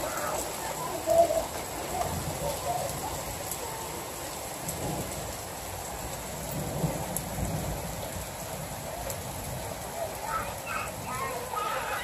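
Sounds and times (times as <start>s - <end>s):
rain falling on pavement: 0.0s - 12.0s.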